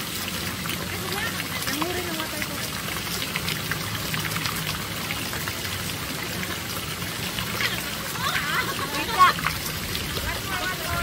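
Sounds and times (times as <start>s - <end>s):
fountain water splashing into pool: 0.0s - 11.0s.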